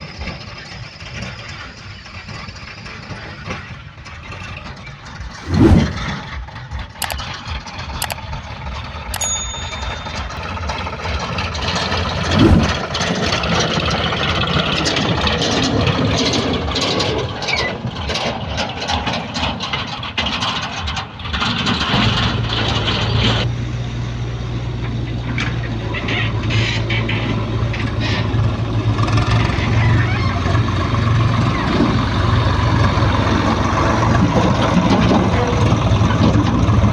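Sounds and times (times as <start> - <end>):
backhoe diesel engine running: 0.0 - 36.9.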